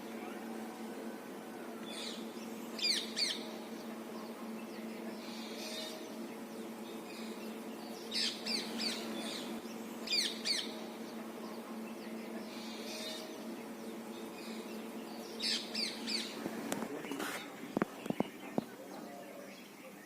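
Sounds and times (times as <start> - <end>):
birds chirping: 0.0 - 20.0
steady low hum: 0.0 - 20.0.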